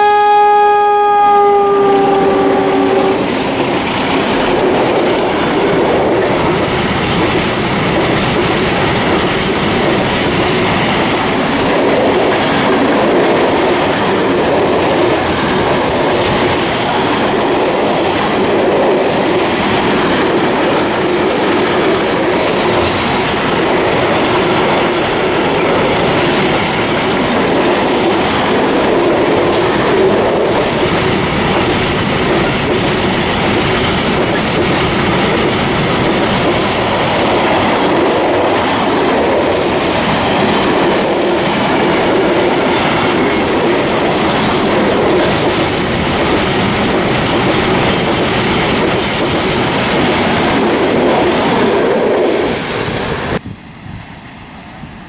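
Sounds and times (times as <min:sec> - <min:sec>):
train wheels rumbling on rail: 0:00.0 - 0:55.0
wheels clacking over rail joints: 0:02.1 - 0:52.9.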